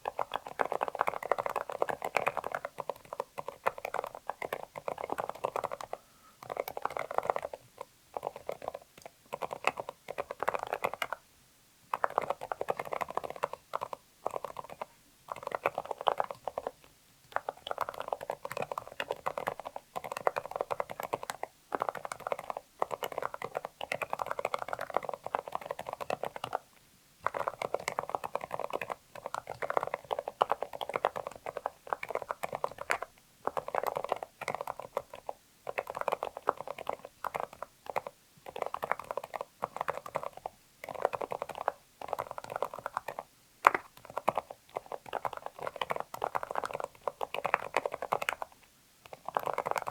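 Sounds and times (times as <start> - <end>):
soft keyboard keystrokes: 0.0 - 11.2, 11.9 - 49.9.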